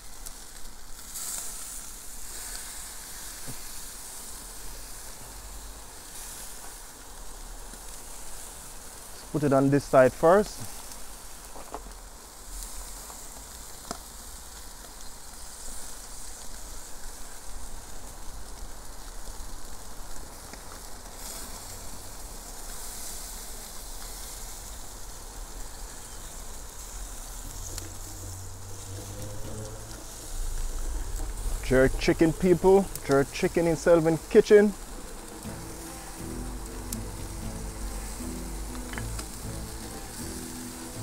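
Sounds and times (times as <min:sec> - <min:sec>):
small crackles: 0:00.0 - 0:09.3, 0:09.9 - 0:41.0
chicken sizzling on grill: 0:00.0 - 0:41.0.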